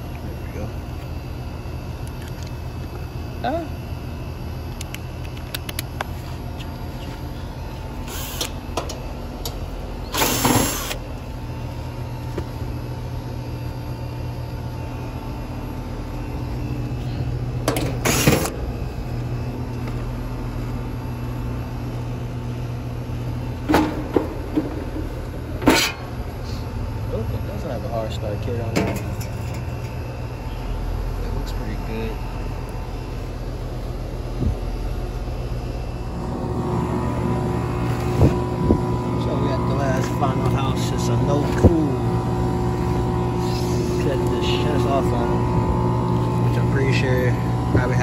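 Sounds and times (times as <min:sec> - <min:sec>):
air conditioner unit humming: 0:00.0 - 0:48.0.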